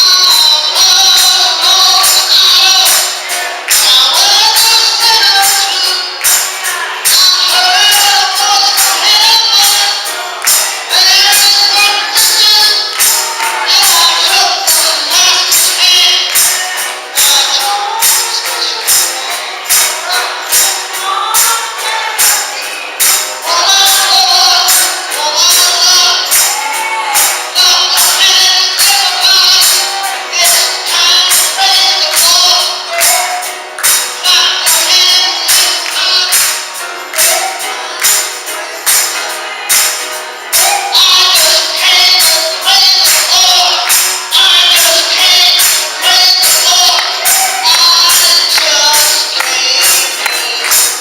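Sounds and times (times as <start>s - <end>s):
tambourine beat: 0.0s - 51.0s
voices singing gospel: 0.0s - 51.0s.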